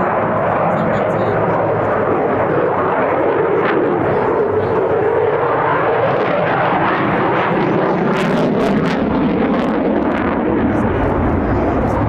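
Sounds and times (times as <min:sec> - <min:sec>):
jet engines at high power: 0:00.0 - 0:12.0.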